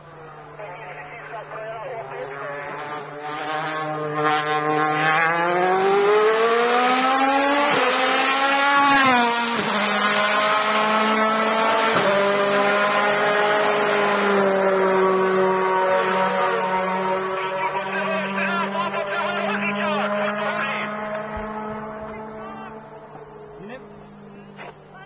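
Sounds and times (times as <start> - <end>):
race car engine accelerating: 2.0 - 25.0.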